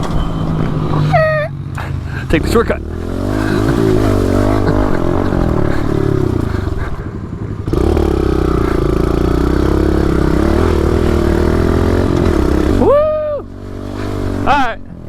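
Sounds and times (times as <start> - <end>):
pit bike engine running hard: 0.0 - 15.0.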